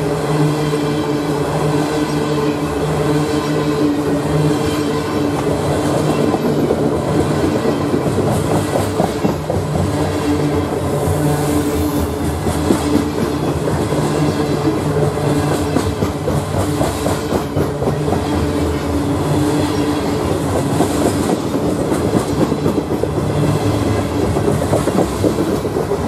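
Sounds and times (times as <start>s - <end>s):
steel wheels rumbling on rail: 0.0s - 26.0s.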